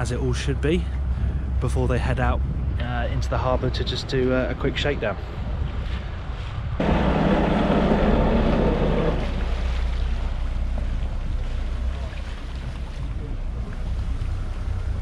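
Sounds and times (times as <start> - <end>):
boat diesel engine rumbling: 0.0 - 5.5, 6.8 - 15.0
wind buffeting microphone: 0.0 - 15.0.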